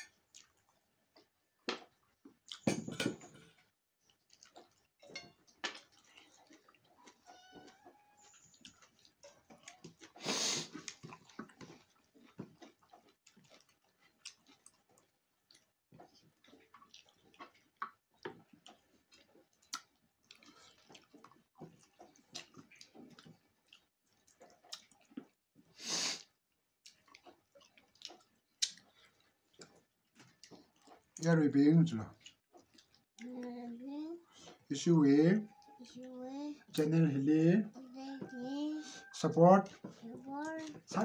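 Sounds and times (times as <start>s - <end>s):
chewing: 0.0s - 2.7s, 3.4s - 31.3s, 32.1s - 34.7s, 35.4s - 36.9s, 37.7s - 41.0s.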